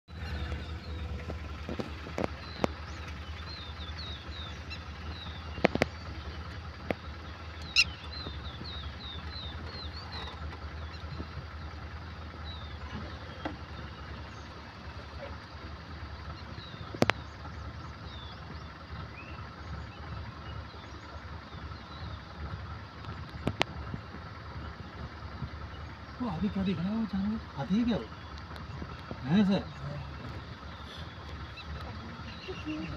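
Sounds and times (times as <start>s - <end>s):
vehicle engine idling: 0.0s - 32.9s
birds chirping: 0.1s - 32.9s.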